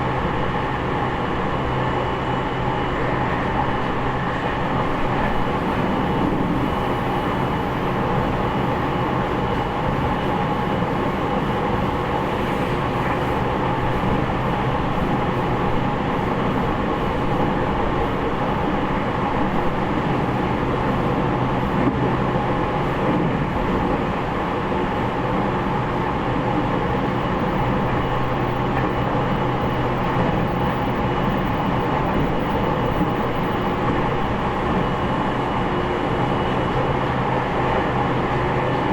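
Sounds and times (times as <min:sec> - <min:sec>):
air-conditioning noise: 0:00.0 - 0:38.9
train wheels rumbling on rail: 0:00.0 - 0:38.9.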